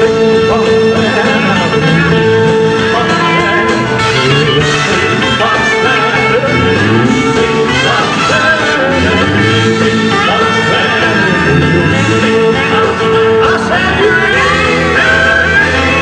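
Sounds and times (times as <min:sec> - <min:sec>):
bass guitar: 0:00.0 - 0:16.0
electric guitar: 0:00.0 - 0:16.0.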